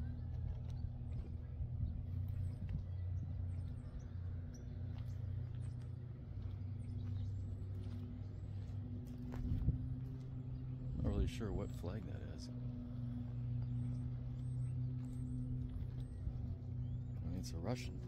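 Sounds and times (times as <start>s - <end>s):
low mechanical hum: 0.0s - 18.0s
small birds chirping: 0.0s - 18.0s.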